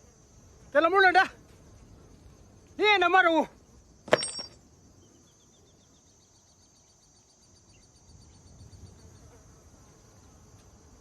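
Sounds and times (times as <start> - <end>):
high insect hum: 0.0 - 11.0.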